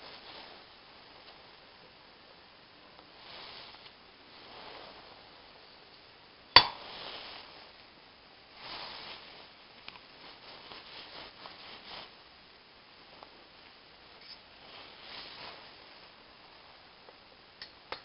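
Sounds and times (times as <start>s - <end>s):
soft rustling: 0.0s - 1.8s, 2.9s - 5.7s, 6.8s - 17.2s.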